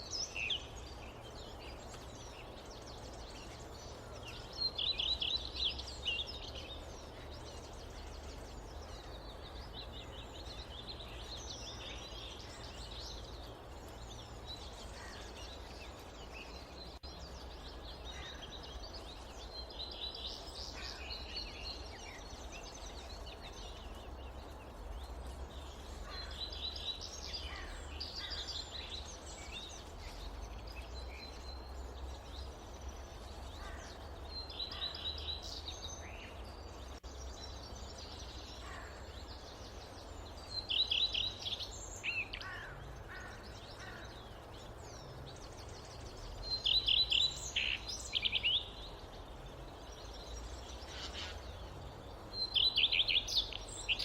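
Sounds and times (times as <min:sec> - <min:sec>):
birds chirping: 0:00.0 - 0:54.0
soft forest ambience hiss: 0:00.0 - 0:54.0.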